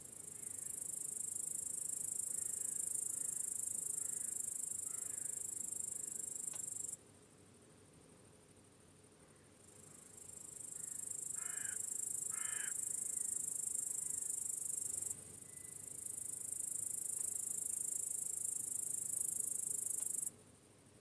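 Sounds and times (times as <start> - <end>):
crickets trilling: 0.1 - 7.0, 8.4 - 20.3.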